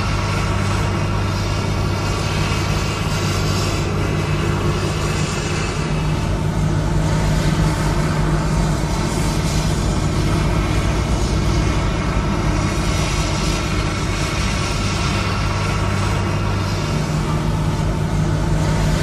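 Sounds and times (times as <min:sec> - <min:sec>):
continuous rushing noise: 0:00.0 - 0:19.0
machinery humming: 0:00.0 - 0:19.0.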